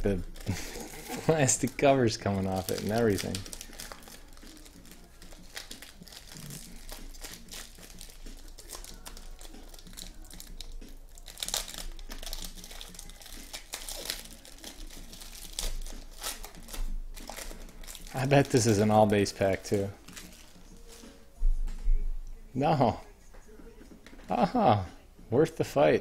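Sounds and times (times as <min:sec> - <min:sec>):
foil wrappers crinkling: 0:00.0 - 0:21.2.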